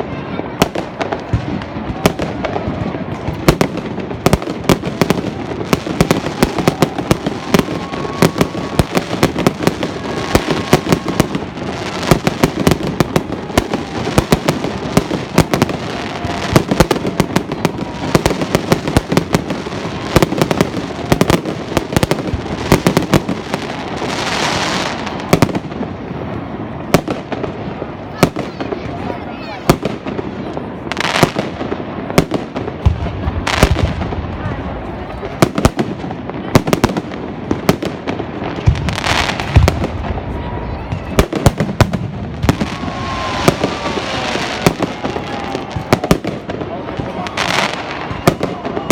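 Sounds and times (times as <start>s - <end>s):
fireworks banging: 0.0s - 48.9s.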